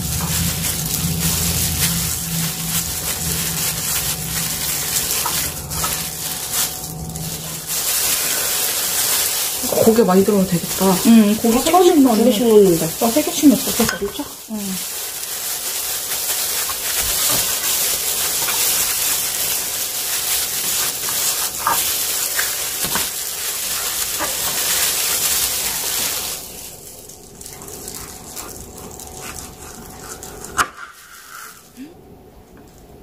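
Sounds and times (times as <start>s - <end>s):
food sizzling in a frying pan: 0.0s - 28.1s.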